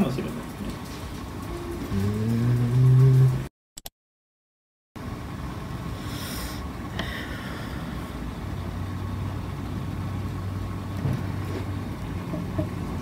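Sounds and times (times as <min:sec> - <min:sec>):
low mechanical rumble and hum: 0:00.0 - 0:03.5, 0:05.0 - 0:13.0.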